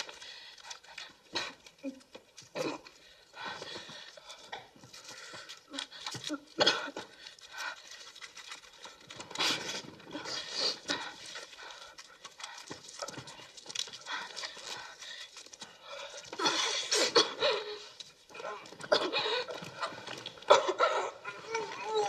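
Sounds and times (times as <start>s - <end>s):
heavy breathing and sniffing: 0.0s - 21.4s.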